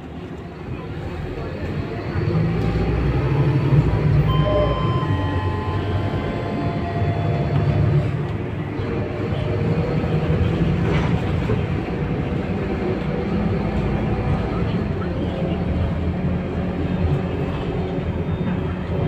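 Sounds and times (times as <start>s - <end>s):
bus engine low rumble: 0.0s - 19.0s.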